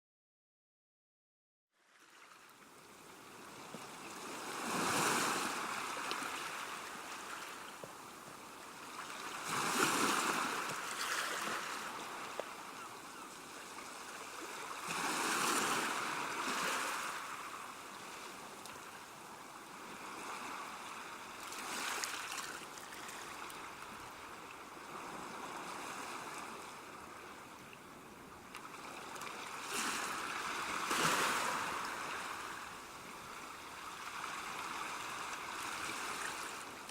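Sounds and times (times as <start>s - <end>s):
sea waves breaking on shore: 1.8s - 27.6s, 28.4s - 36.9s.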